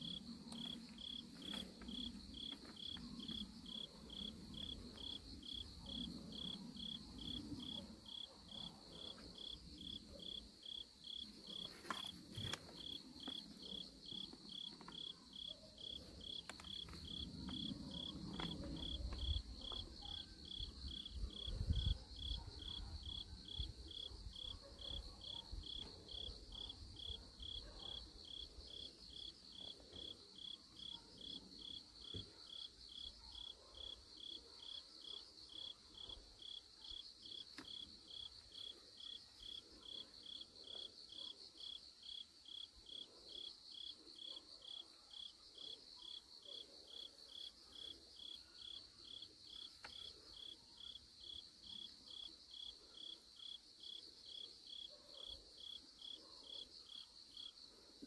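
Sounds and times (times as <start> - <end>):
cricket chirping: 0.0 - 58.0.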